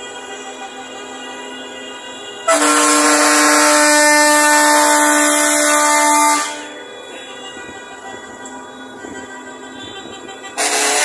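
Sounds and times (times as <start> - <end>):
bus horn blast: 0.0 - 11.0.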